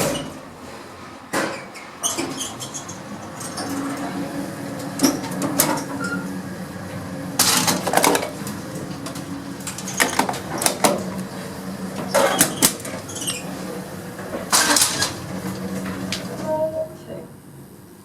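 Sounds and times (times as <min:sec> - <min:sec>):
lift machinery humming: 0:00.0 - 0:18.0.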